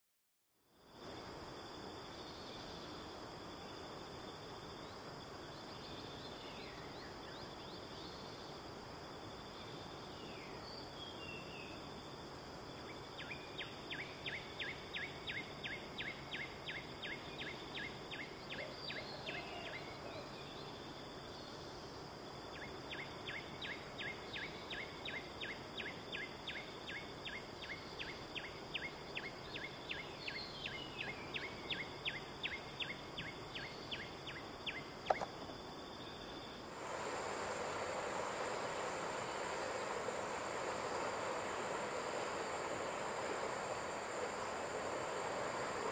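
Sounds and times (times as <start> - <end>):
steady hiss: 0.6 - 45.9.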